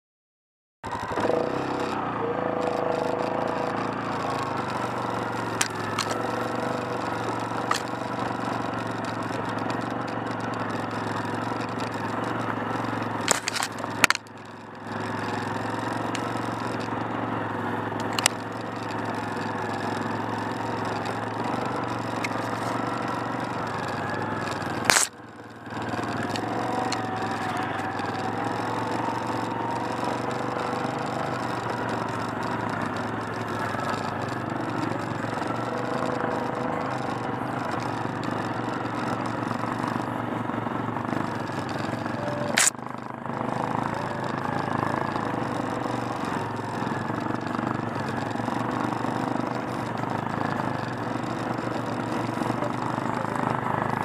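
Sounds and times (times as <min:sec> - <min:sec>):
atv engine running: 0:00.8 - 0:54.0.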